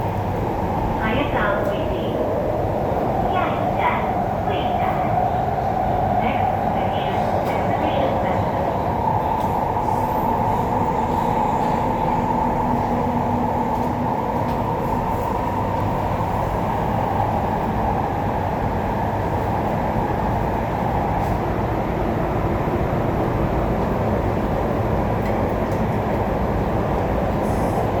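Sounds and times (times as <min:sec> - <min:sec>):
train rail noise: 0:00.0 - 0:28.0.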